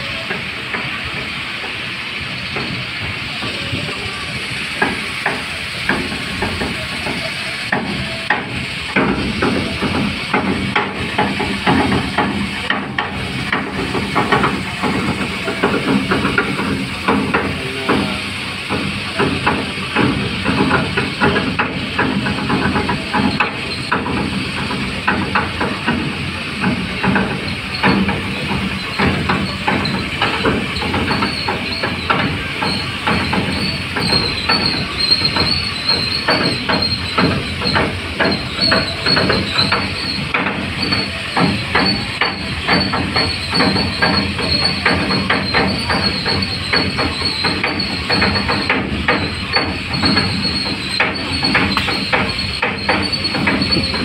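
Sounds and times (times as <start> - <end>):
diesel engine chugging: 0.0 - 54.0
engine hiss: 0.0 - 54.0.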